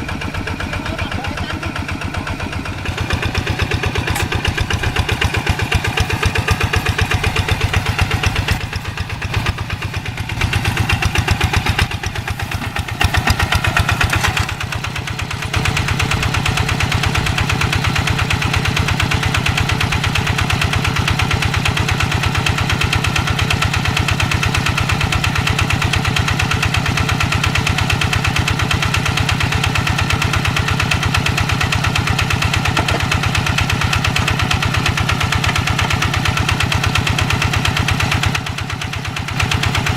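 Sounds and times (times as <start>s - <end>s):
diesel hand tractor engine chugging: 0.0s - 39.9s.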